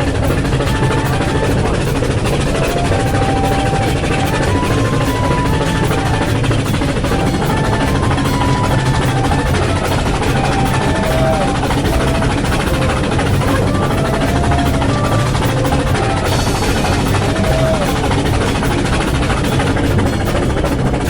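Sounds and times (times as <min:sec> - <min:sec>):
melody of short held notes: 0:00.0 - 0:21.0
steady percussion: 0:00.0 - 0:21.0.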